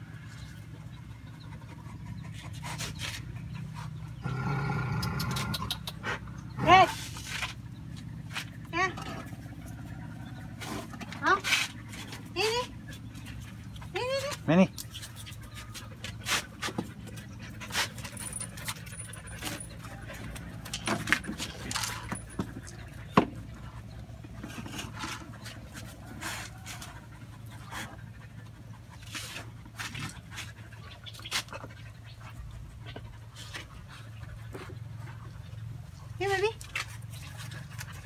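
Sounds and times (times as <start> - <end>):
dogs panting: 0.0 - 38.0.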